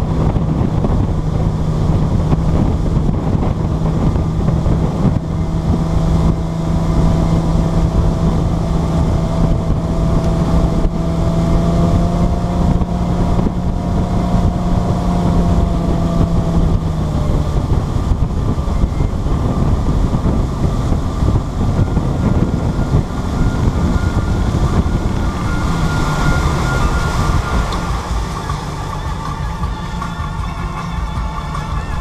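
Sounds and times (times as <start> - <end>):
motorboat engine running: 0.0 - 32.0
wind buffeting microphone: 0.0 - 32.0.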